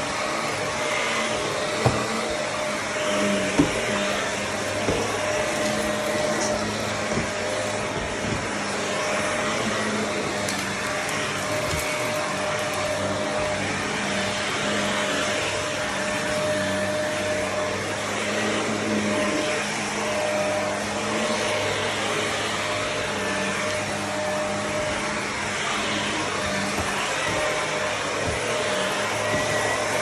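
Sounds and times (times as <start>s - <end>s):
vacuum cleaner on carpet: 0.0s - 30.0s.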